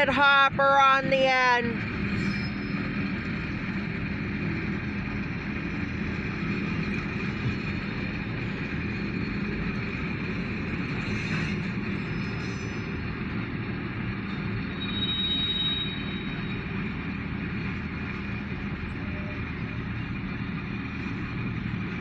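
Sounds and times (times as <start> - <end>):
constant low hum: 0.0 - 22.0
train wheels rumbling on rail: 0.0 - 22.0.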